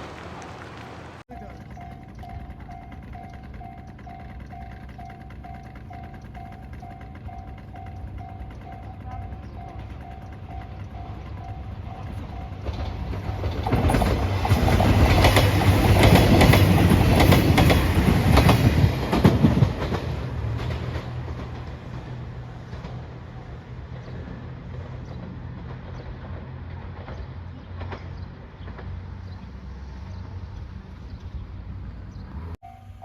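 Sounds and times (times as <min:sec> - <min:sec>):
train wheels clacking over rails: 0:01.3 - 0:29.8.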